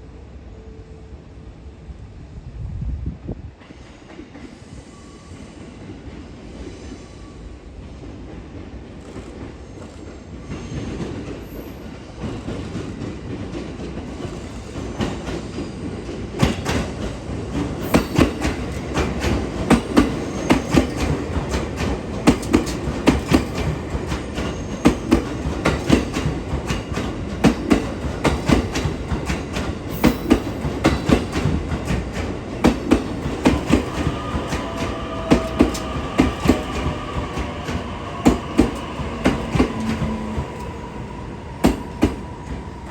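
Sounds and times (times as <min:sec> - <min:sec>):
train rumble: 0:01.9 - 0:42.9.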